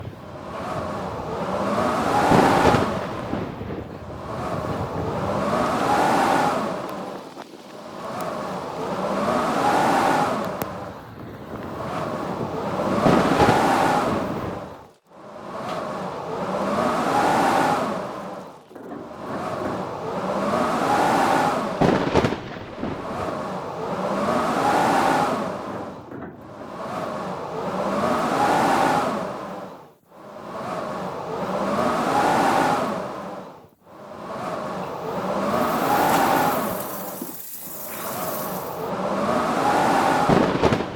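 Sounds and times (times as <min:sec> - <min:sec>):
wind howling in gusts: 0:00.0 - 0:40.9.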